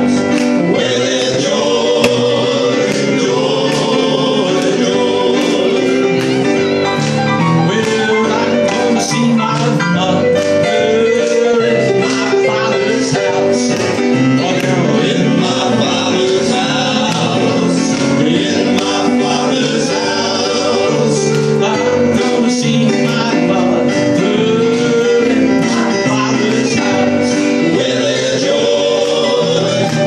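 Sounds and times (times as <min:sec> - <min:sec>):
keyboard piano accompaniment: 0:00.0 - 0:30.0
male quartet singing in harmony: 0:00.0 - 0:30.0.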